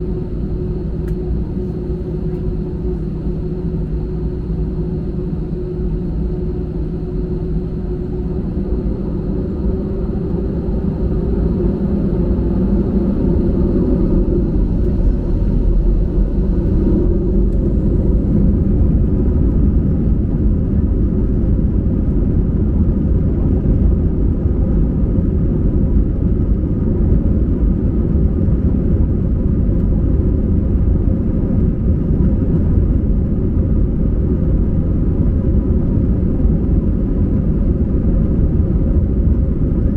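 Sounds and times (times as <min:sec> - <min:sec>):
jet engines at takeoff: 0:00.0 - 0:39.9.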